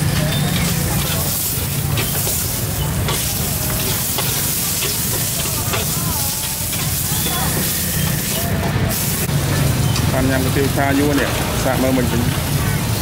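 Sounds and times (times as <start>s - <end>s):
noodles sizzling in oil: 0.0s - 13.0s.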